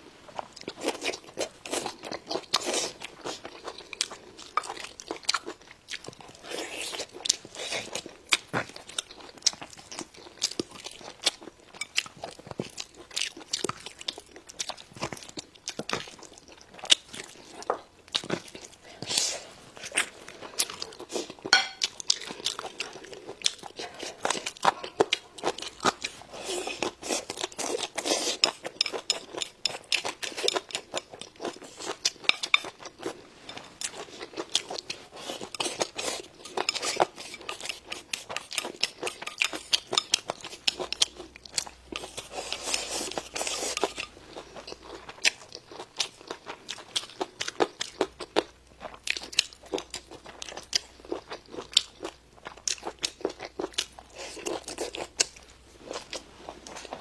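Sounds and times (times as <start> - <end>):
person chewing crisp food: 0.3 - 57.0.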